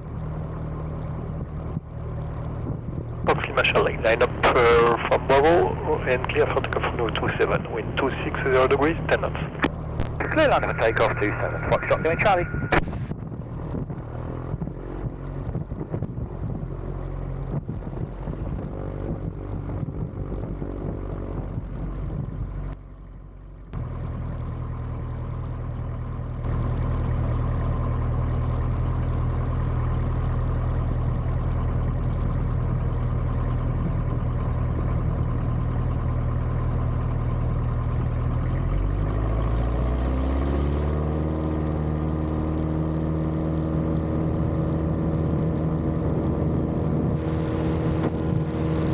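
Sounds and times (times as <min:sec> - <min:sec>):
light aircraft engine and propeller: 0:00.0 - 0:48.9.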